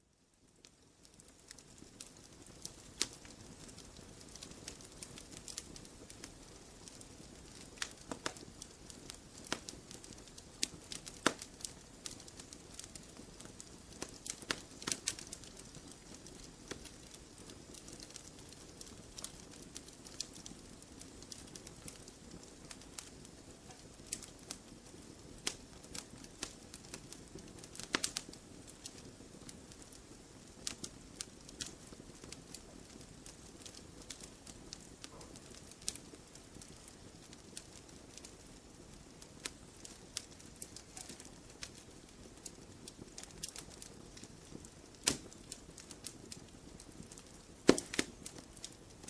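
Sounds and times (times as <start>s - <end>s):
campfire crackling: 0.2s - 49.0s.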